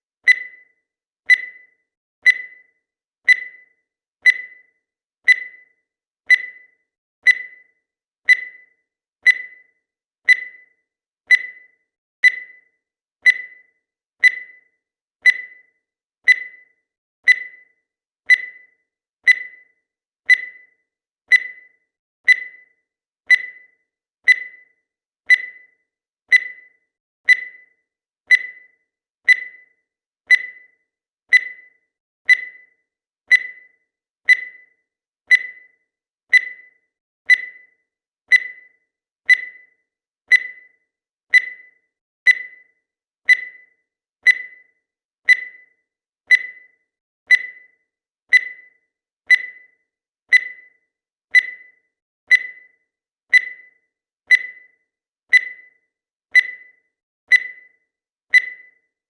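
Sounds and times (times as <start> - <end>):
timer short high beeps: 0.2 - 59.0.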